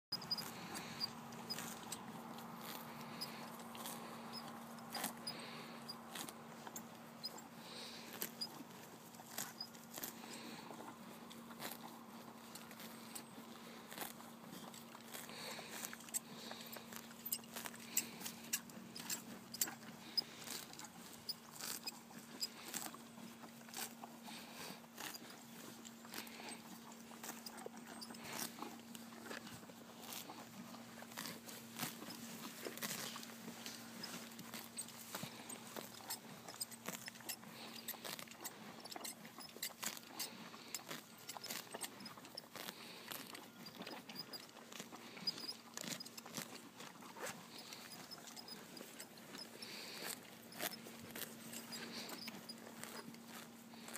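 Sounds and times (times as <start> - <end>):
horse tearing and chewing grass: 0.1 - 53.9.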